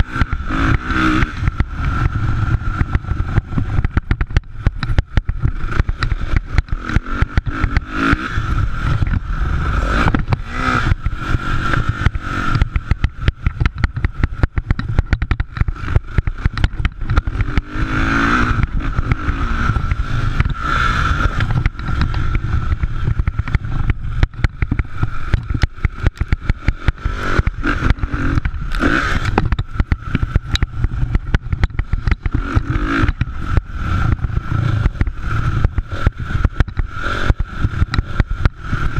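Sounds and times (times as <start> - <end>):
constant crackle: 0.0 - 17.8, 18.4 - 38.9
dirt bike engines revving: 0.0 - 38.9
low rumble: 0.0 - 38.9.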